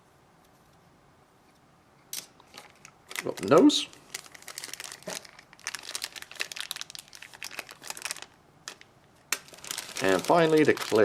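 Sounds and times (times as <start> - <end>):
plastic packaging crinkling: 2.2 - 11.0.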